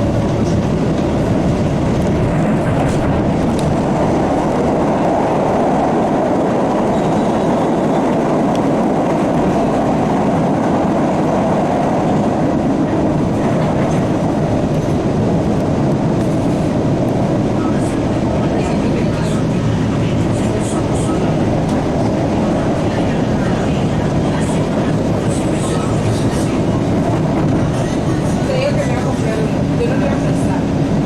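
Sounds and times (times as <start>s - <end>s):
subway wheels rumbling on rails: 0.0s - 31.0s.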